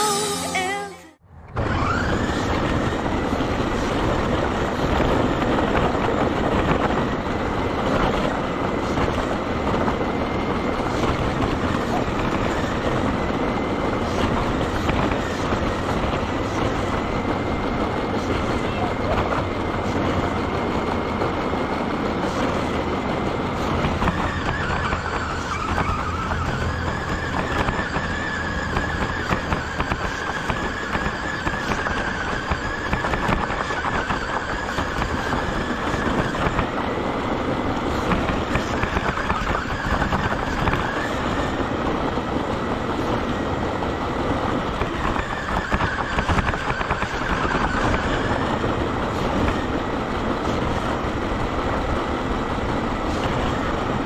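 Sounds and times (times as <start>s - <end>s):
tyres rumbling on asphalt: 1.2s - 54.0s.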